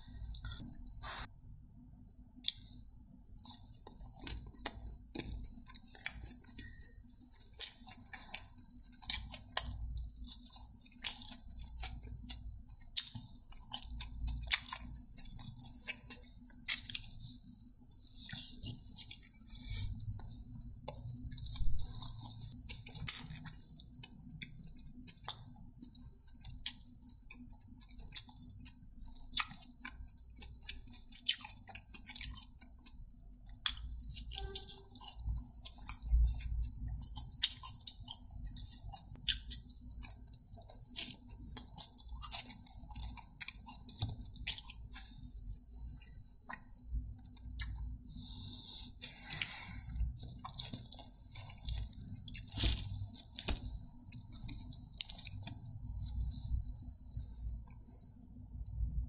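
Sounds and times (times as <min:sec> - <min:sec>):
person chewing food: 0:00.0 - 0:01.3, 0:02.0 - 0:59.0.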